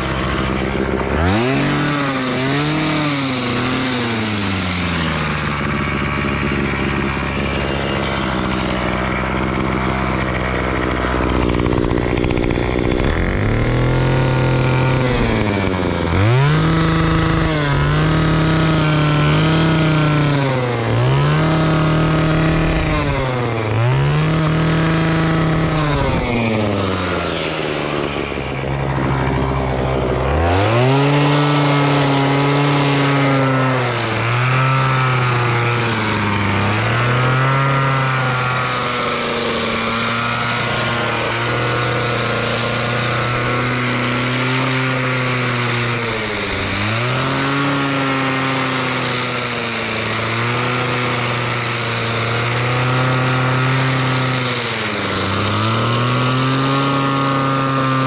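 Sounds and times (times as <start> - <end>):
hedge trimmer cutting shrub: 0.0 - 58.0.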